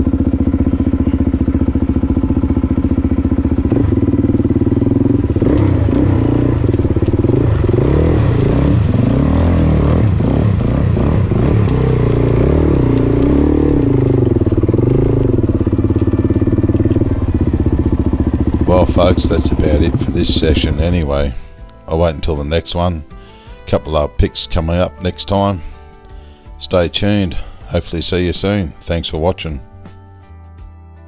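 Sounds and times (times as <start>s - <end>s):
motorcycle engines idling and revving: 0.0s - 30.3s.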